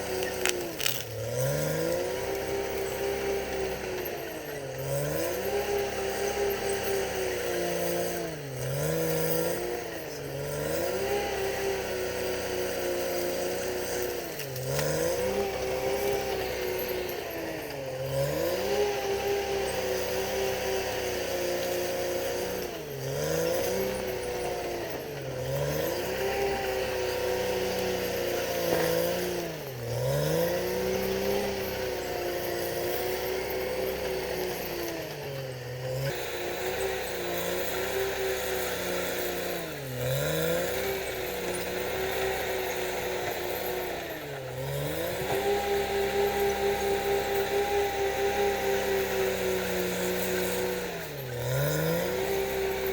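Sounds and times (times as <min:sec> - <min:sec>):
bulldozer diesel engine revving: 0:00.0 - 0:52.9.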